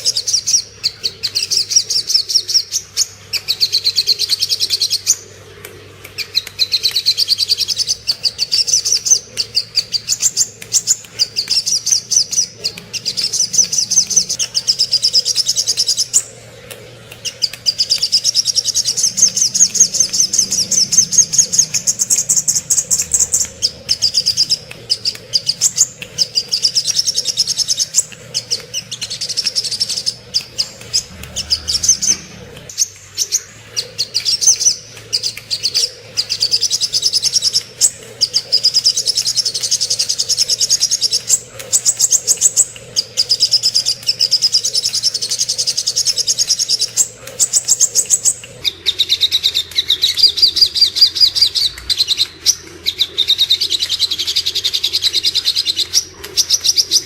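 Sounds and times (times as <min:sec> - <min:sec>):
bird chattering trills: 0:00.0 - 0:05.6, 0:06.2 - 0:57.0.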